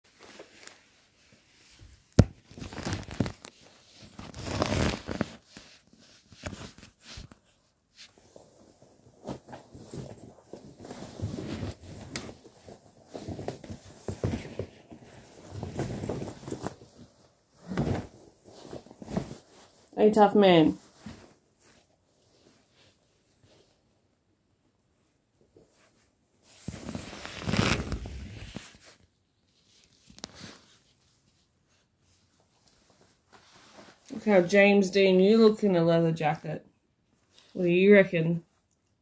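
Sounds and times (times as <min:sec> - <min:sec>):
fabric rustling near microphone: 0:00.1 - 0:24.0, 0:25.4 - 0:35.5.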